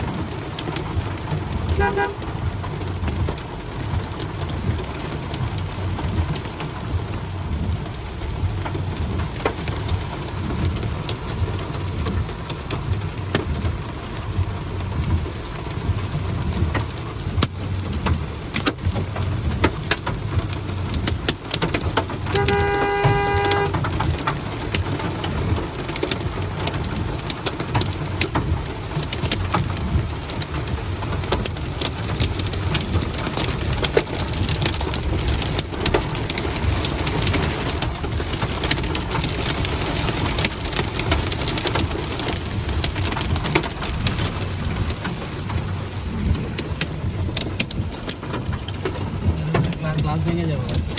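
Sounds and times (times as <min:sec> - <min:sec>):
hail clicking on hard surfaces: 0:00.0 - 0:50.9
steady rush of rain: 0:00.0 - 0:50.9.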